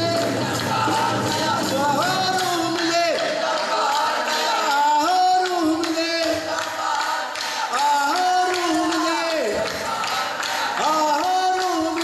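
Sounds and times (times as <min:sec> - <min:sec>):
crowd noise: 0:00.0 - 0:12.0
music: 0:00.0 - 0:12.0
voices singing held notes: 0:00.0 - 0:12.0.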